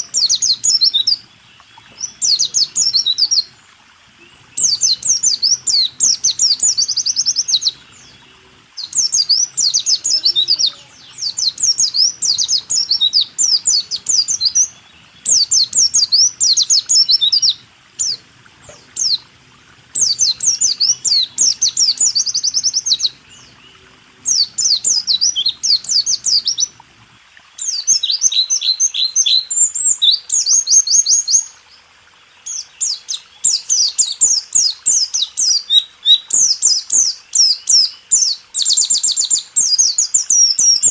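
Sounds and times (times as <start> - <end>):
bird high trilling song: 0.0 - 3.6, 4.2 - 19.2, 20.0 - 26.7, 32.5 - 40.9.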